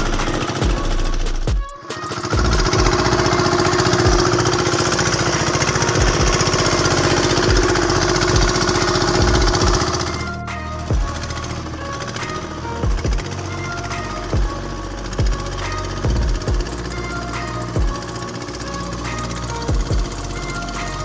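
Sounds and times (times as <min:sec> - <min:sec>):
boat engine pulsing: 0:00.0 - 0:21.0.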